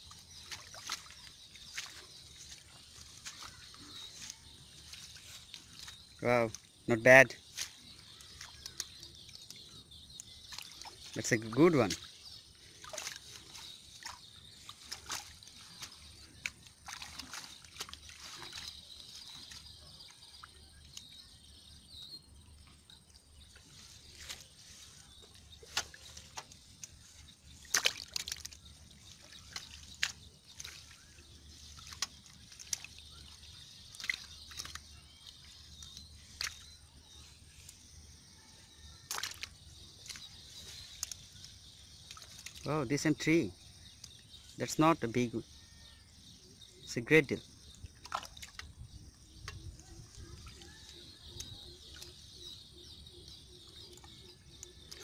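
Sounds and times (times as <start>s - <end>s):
small water splashes: 0.0s - 6.8s, 7.4s - 21.4s, 22.9s - 36.7s, 39.0s - 44.3s, 47.3s - 55.0s
water sloshing and trickling: 0.0s - 55.0s.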